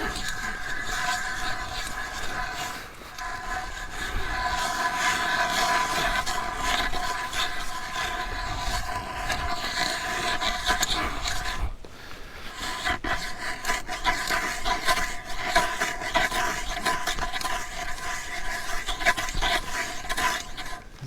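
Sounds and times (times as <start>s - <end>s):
ice auger grinding through ice: 0.0s - 11.7s, 12.5s - 20.9s.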